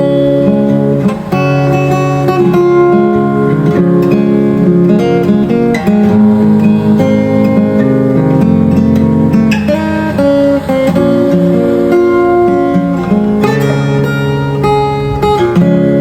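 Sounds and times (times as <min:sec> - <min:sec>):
fingerstyle acoustic guitar: 0:00.0 - 0:16.0.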